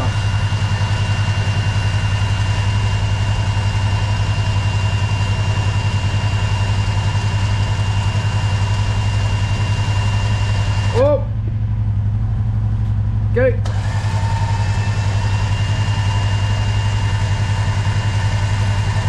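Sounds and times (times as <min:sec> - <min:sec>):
electric winch whining: 0:00.0 - 0:11.2, 0:13.6 - 0:19.0
engine idling: 0:00.0 - 0:19.0.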